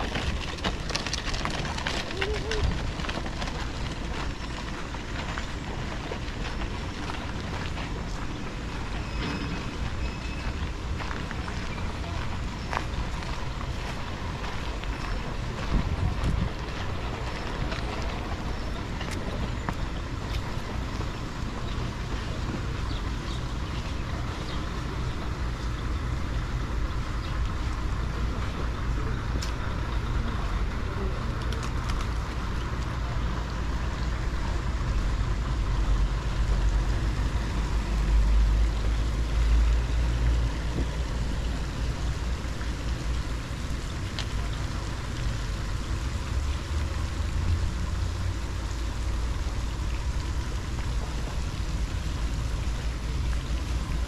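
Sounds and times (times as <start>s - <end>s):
low vehicle rumble: 0.0s - 54.0s
traffic hiss: 0.0s - 54.0s.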